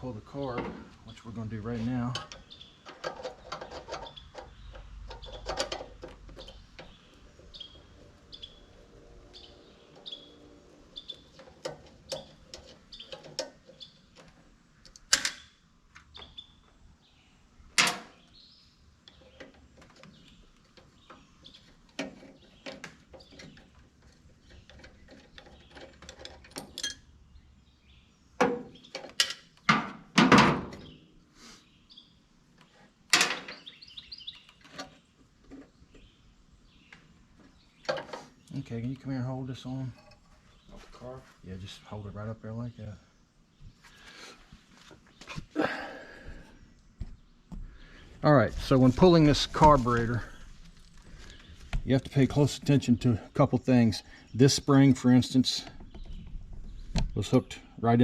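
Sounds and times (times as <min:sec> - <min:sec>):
bird chirping: 0:00.0 - 0:26.2, 0:26.8 - 0:29.7, 0:30.8 - 0:57.9.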